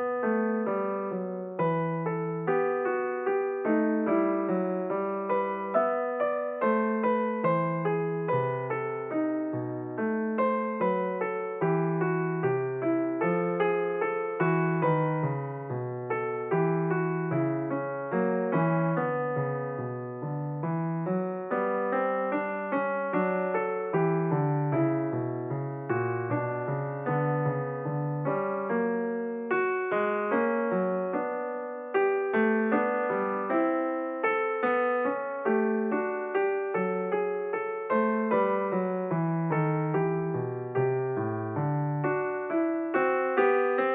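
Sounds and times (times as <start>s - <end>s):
solo piano music: 0.0s - 43.9s.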